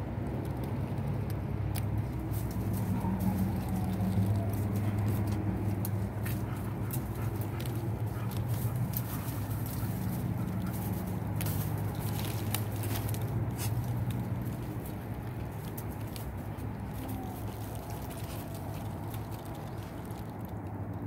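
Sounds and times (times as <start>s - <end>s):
dry leaves crackling under paws: 0.2s - 21.0s.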